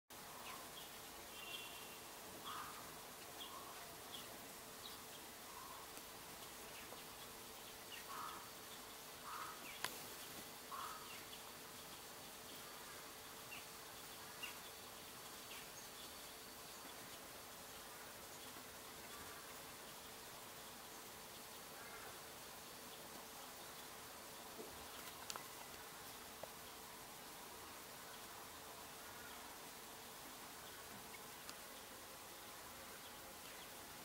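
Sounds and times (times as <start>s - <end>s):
faint steady hum: 0.1s - 34.0s.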